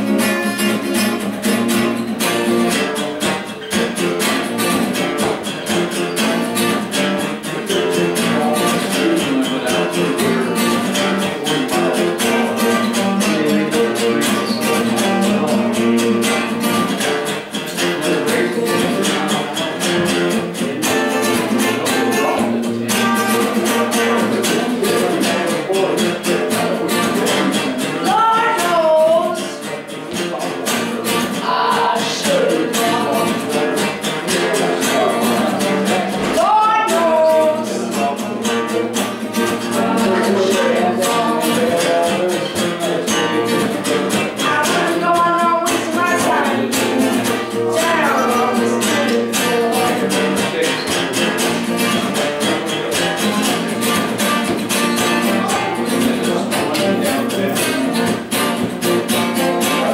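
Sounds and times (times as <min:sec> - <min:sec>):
acoustic guitar blues riff: 0:00.0 - 0:59.9.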